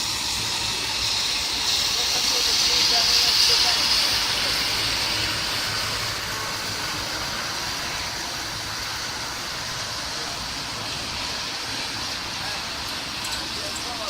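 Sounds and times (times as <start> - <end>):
combine harvester drone: 0.0 - 14.0
threshing gear hiss: 0.0 - 14.0.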